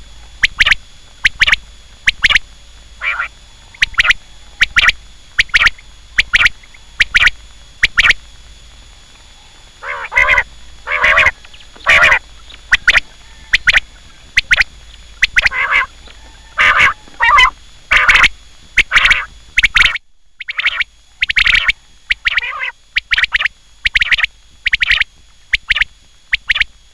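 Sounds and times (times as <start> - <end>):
quail calling: 3.0 - 8.2, 9.4 - 25.8.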